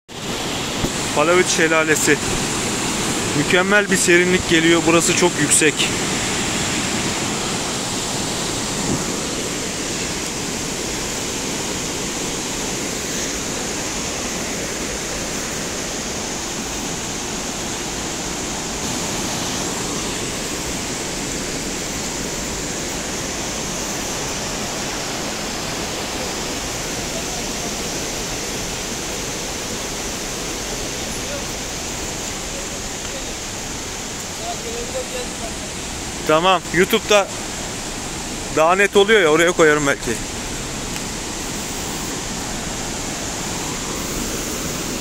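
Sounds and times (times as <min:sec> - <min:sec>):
stream rushing over rocks: 0:00.1 - 0:45.0.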